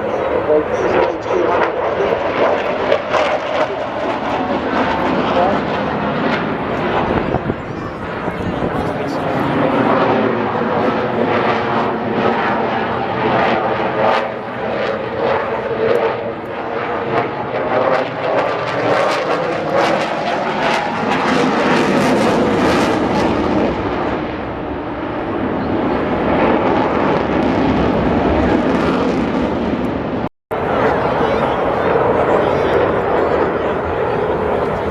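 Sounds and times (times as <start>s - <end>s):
propeller aircraft engine: 0.0s - 34.9s.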